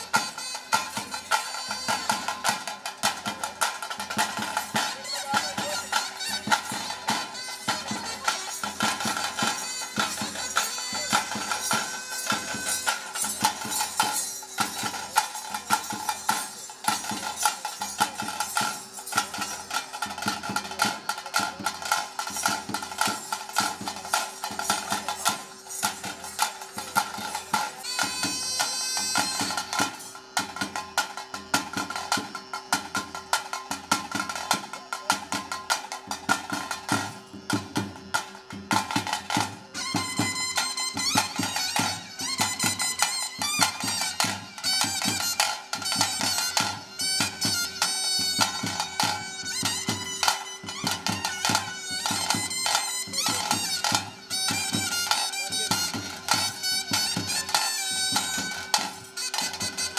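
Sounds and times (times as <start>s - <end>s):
drums beating fast rhythm: 0.0s - 59.9s
reed pipe melody: 0.0s - 59.9s.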